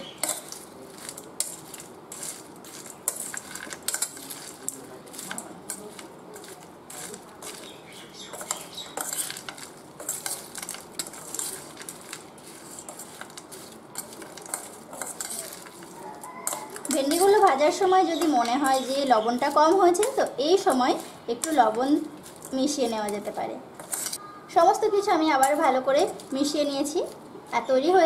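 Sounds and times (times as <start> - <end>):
spoon scraping metal bowl: 0.0 - 23.2, 23.8 - 24.2.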